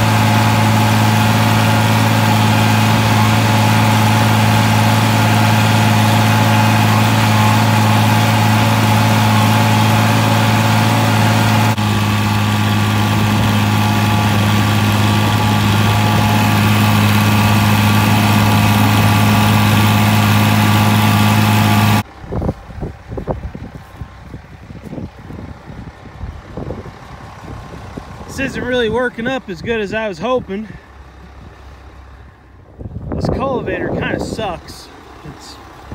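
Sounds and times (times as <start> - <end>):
tractor engine running under load: 0.0 - 35.9.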